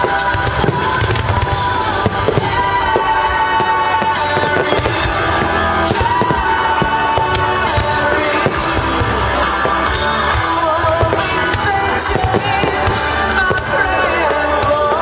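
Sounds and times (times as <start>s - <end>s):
music with singing voice: 0.0s - 15.0s.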